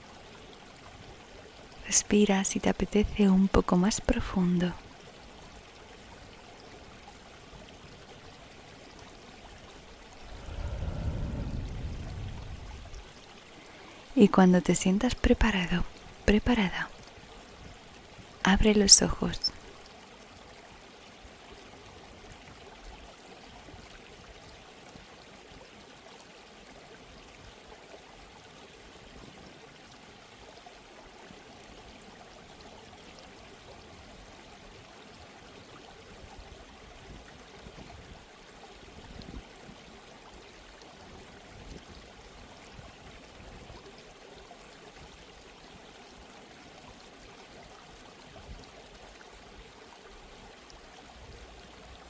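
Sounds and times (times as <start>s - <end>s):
flowing water with splashes: 0.0s - 52.0s.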